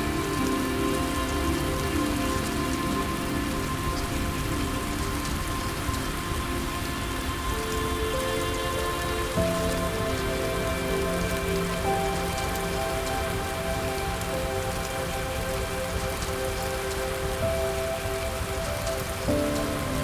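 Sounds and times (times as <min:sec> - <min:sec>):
soft ambient music: 0:00.0 - 0:20.0
steady rain: 0:00.0 - 0:20.0.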